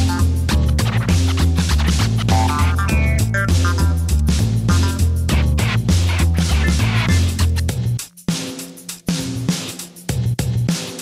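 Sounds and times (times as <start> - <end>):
music with bass and drum beat: 0.0 - 11.0.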